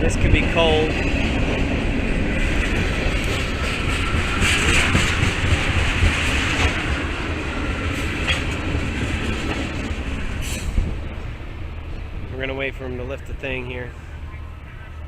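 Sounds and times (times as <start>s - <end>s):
wheels clacking over rail joints: 0.0s - 13.0s
train wheels rumbling on rail: 0.0s - 15.0s.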